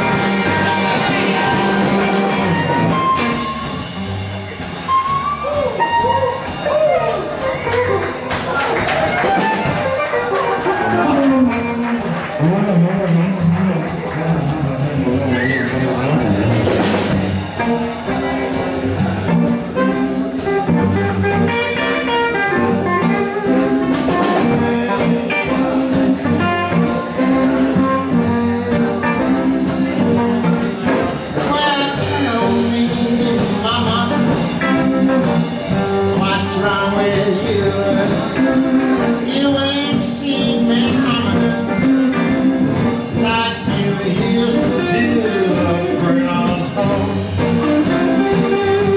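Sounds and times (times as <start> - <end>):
drums: 0.0 - 48.9
electric guitars: 0.0 - 48.9.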